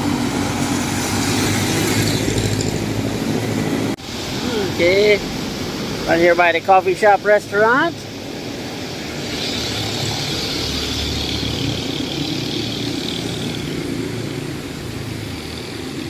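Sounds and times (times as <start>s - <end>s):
vehicle passing on wet street: 0.0s - 16.0s.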